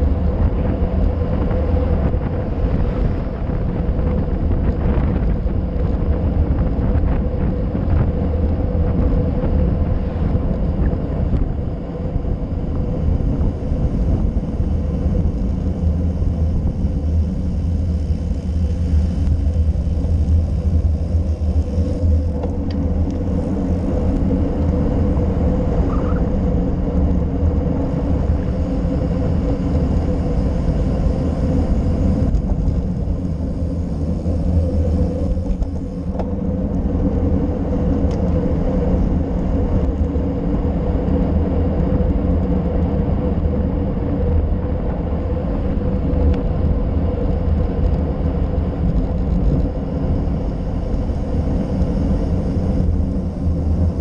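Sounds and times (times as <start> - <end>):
steady hum: 0.0 - 54.0
tyre road noise on asphalt: 0.0 - 54.0
wind rumble: 0.0 - 54.0.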